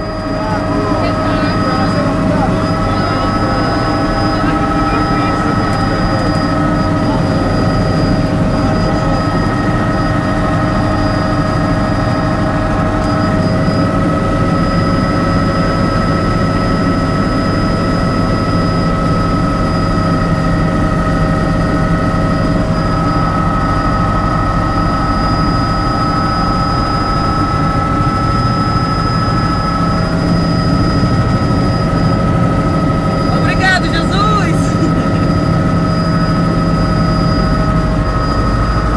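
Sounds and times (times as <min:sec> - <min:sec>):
helicopter turbine and rotors: 0:00.0 - 0:34.0, 0:34.7 - 0:38.9.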